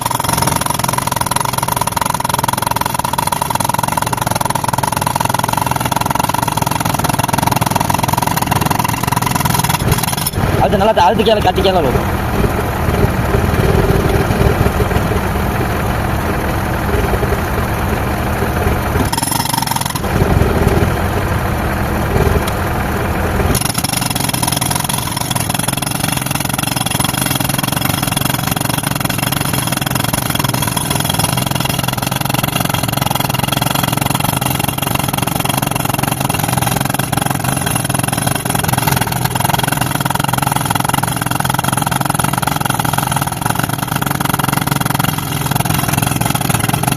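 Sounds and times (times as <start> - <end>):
concrete breaker hammering: 0.0 - 21.3, 21.9 - 46.9
air compressor engine running: 0.0 - 46.9.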